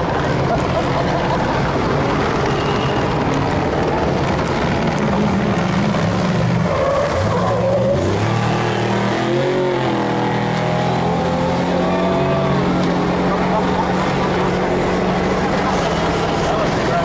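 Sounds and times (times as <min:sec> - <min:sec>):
truck engine racing by: 0:00.0 - 0:17.0.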